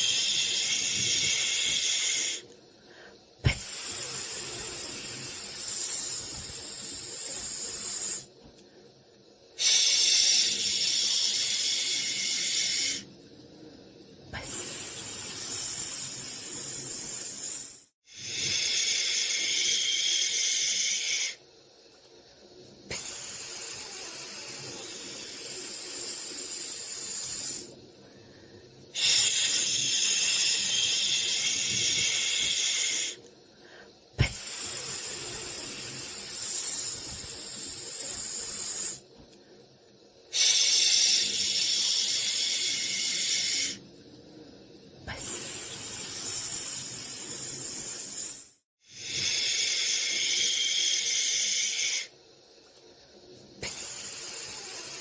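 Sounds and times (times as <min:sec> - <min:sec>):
white noise hissing: 0:00.0 - 0:55.0.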